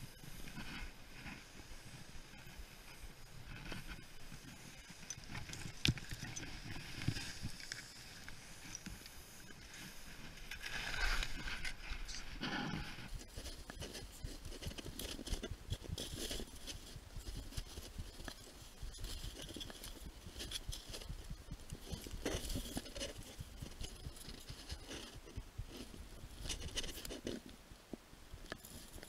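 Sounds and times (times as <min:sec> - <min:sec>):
skis scraping over snow: 0:00.1 - 0:27.1
small knocks and rustles: 0:00.3 - 0:29.0.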